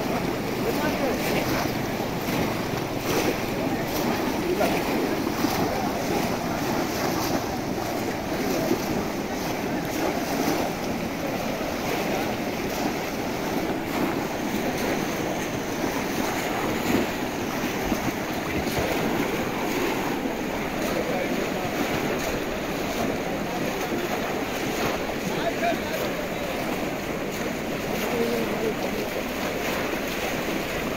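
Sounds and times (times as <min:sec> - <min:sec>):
crowd voices: 0:00.0 - 0:30.2
splashing in shallow water: 0:00.0 - 0:30.9.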